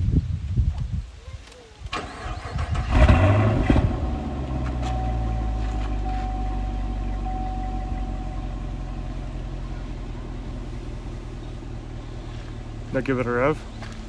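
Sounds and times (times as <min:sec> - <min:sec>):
car engine idling: 0:01.9 - 0:14.0.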